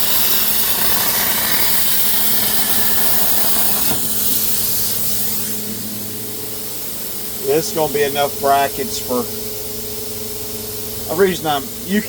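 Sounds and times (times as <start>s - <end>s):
plasma cutter hissing: 0.0s - 12.0s
low hum: 0.8s - 11.1s.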